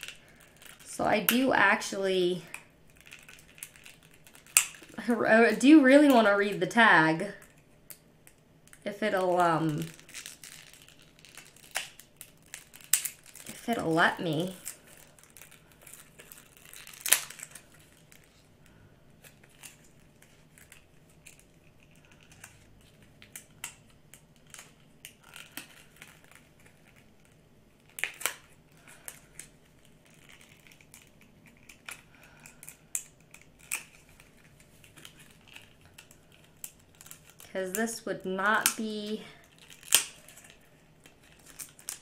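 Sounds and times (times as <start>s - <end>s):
card tag crinkling: 0.0s - 42.0s.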